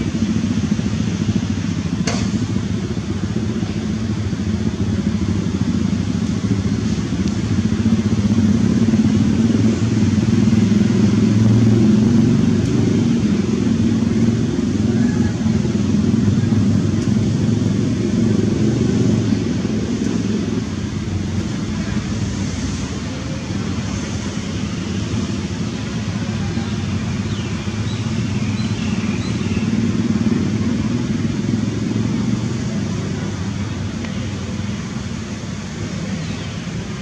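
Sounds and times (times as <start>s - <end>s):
low engine rumble: 0.0s - 37.0s.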